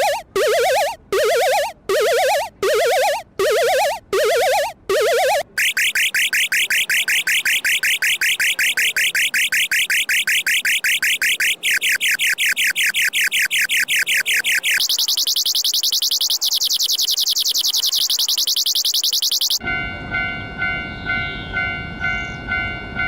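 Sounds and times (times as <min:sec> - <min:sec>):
electronic alarm beeping: 0:00.0 - 0:19.6.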